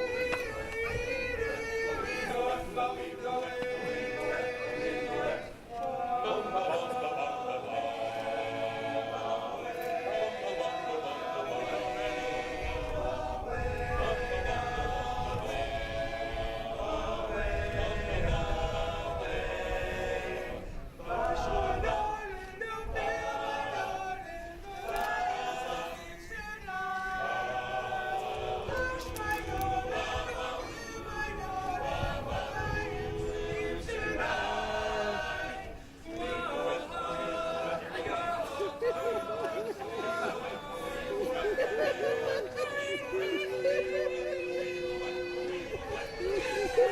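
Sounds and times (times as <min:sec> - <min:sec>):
chorus singing a cappella: 0:00.0 - 0:46.9.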